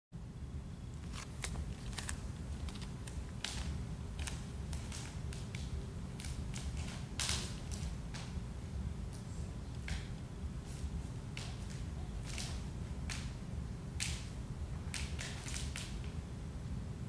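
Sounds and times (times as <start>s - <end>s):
steady low hum: 0.2s - 17.0s.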